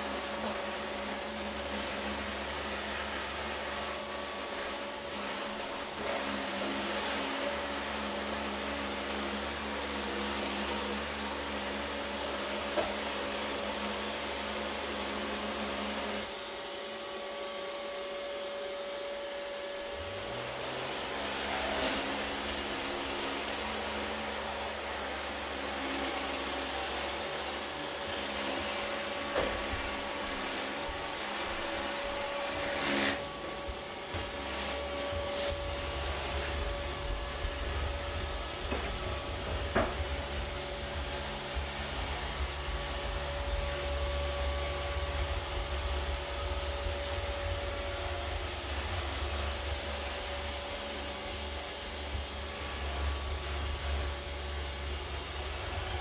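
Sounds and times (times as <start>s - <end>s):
robot vacuum humming: 0.0s - 56.0s.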